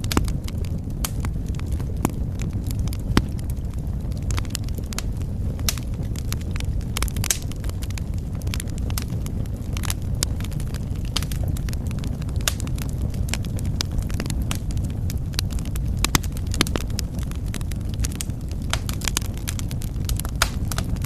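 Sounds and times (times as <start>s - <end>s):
fire crackles and pops: 0.0s - 21.0s
wood fire burning: 0.0s - 21.0s.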